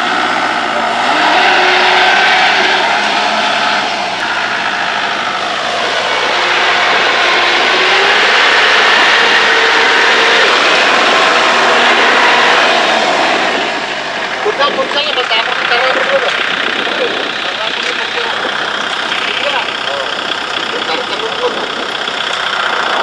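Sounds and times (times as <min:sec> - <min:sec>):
tractor diesel engine revving hard: 0:00.0 - 0:23.0.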